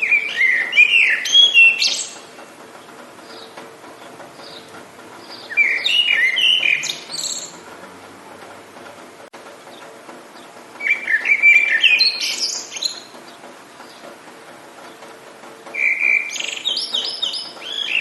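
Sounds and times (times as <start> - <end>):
songbird chirping: 0.0 - 8.6, 9.5 - 15.1, 15.7 - 18.0
faint hiss of rain: 0.0 - 18.0.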